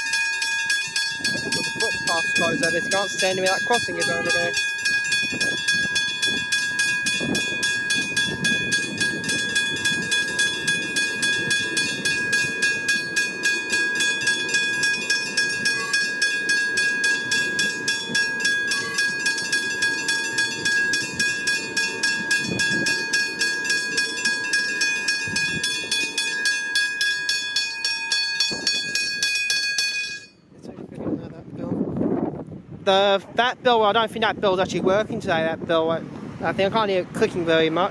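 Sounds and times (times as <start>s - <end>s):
passing train rumble: 0.0s - 30.0s, 30.6s - 37.9s
level crossing bell ringing: 0.0s - 30.4s.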